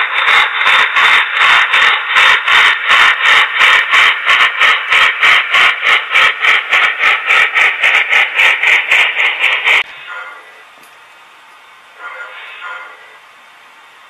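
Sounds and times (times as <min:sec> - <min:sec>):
model steam locomotive chuffs: 0:00.0 - 0:14.0.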